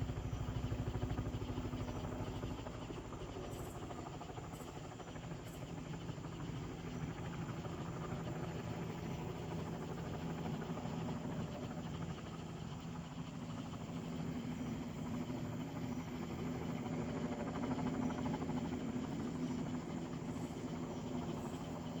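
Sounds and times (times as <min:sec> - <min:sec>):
helicopter rotor and turbine hum: 0:00.0 - 0:22.0.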